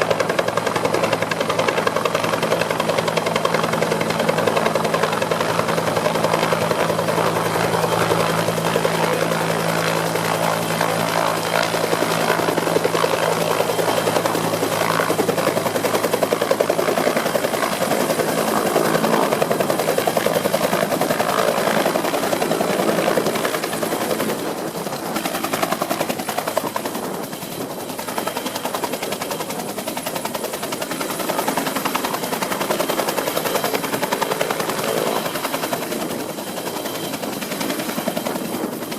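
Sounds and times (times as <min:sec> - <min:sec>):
helicopter rotor blades chopping: 0:00.0 - 0:38.9.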